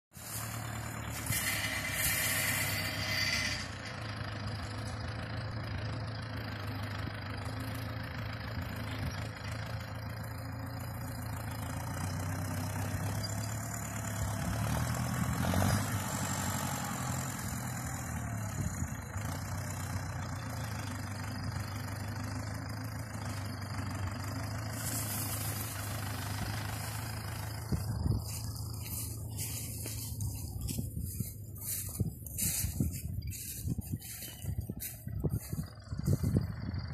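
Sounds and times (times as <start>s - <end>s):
tractor engine idling: 0.1s - 36.9s.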